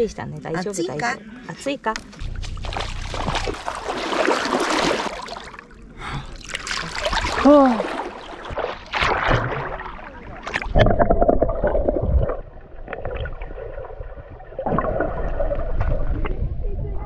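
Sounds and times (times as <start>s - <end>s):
water sloshing and splashing: 2.1s - 16.8s.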